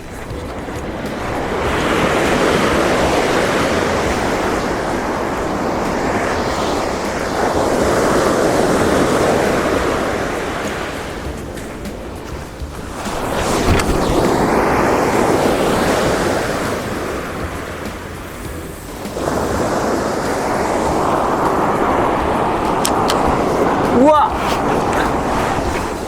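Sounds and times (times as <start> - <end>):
surf breaking on beach: 0.0 - 26.0
wind on microphone: 0.0 - 26.0.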